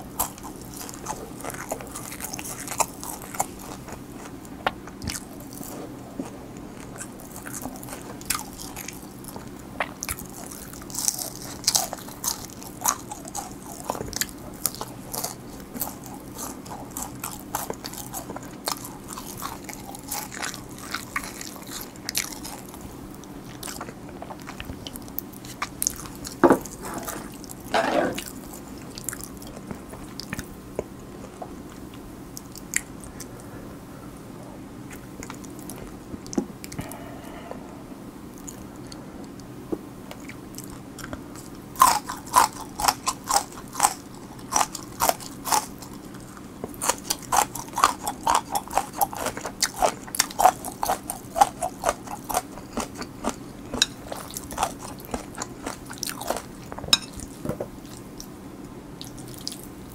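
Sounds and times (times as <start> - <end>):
chewing crispy fried chicken: 0.0 - 33.5, 34.8 - 37.4, 38.3 - 59.9.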